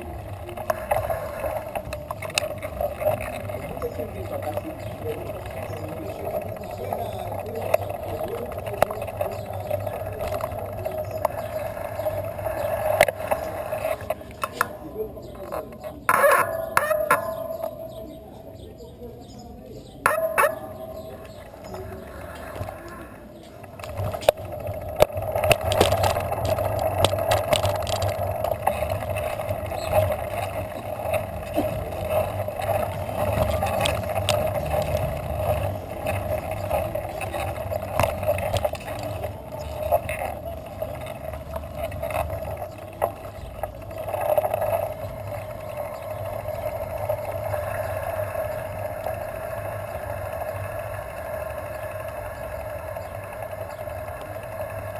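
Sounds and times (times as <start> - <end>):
bicycle rattles and knocks: 0.0 - 18.3, 20.1 - 54.9
bicycle road and wind noise: 0.0 - 54.9.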